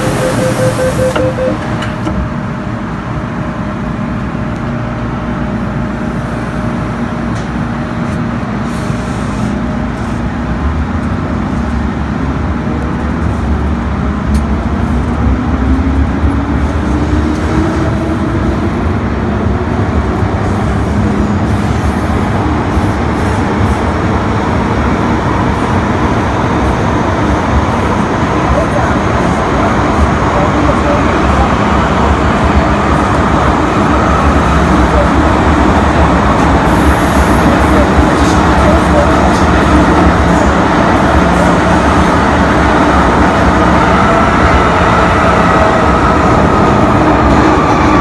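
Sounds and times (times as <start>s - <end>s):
train rumble inside carriage: 0.0s - 48.0s.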